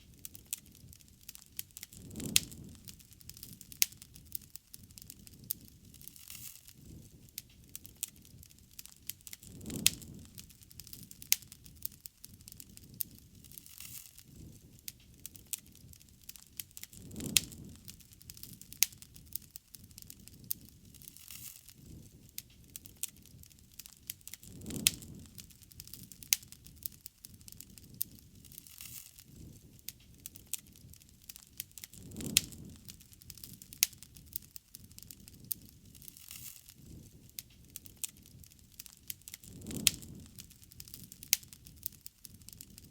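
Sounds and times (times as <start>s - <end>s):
burning wood crackling and popping: 0.0s - 42.9s
hiss of flames: 0.0s - 42.9s.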